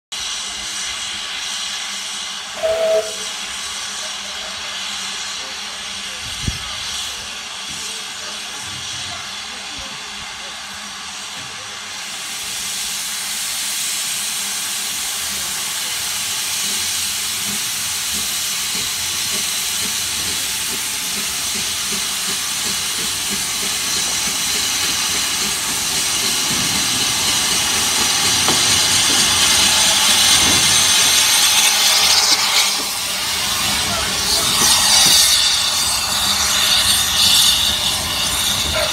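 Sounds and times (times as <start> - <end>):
steam locomotive hissing: 0.1 - 38.9.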